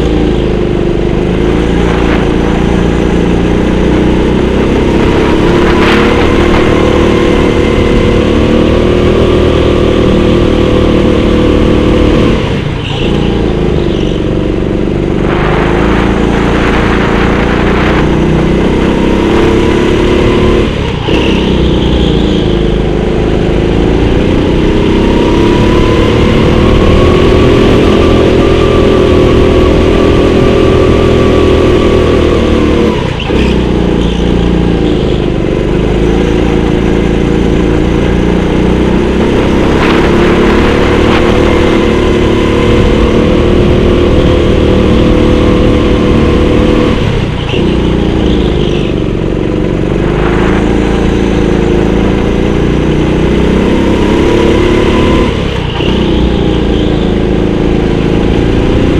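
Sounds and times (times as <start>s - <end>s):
go-kart engine running hard: 0.0s - 58.9s.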